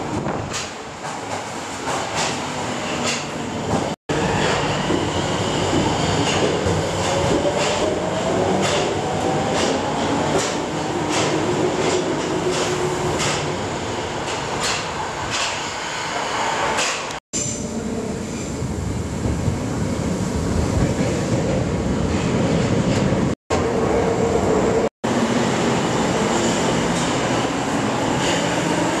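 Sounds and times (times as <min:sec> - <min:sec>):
train rumble: 0:00.0 - 0:15.8, 0:16.7 - 0:29.0.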